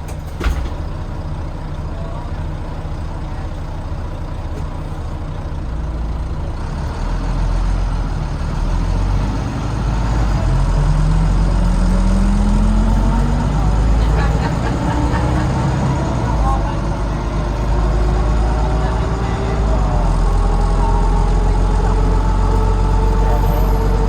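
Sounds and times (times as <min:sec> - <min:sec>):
bus diesel engine: 0:00.0 - 0:24.0.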